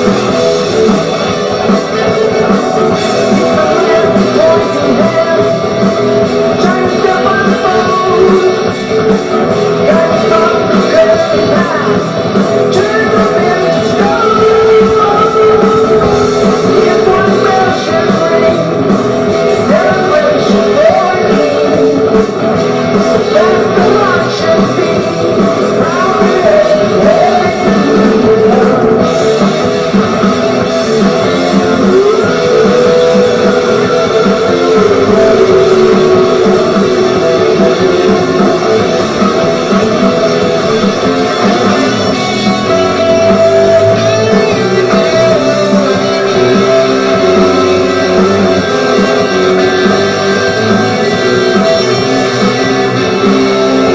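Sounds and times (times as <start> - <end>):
rock music with singing: 0.0 - 53.9.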